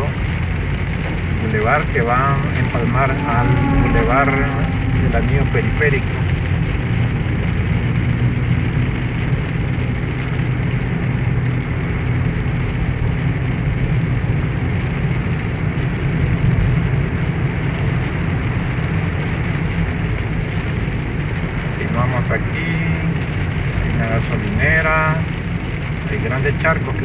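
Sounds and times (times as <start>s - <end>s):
rain hiss on car: 0.0s - 27.0s
tyres on wet road: 0.0s - 27.0s.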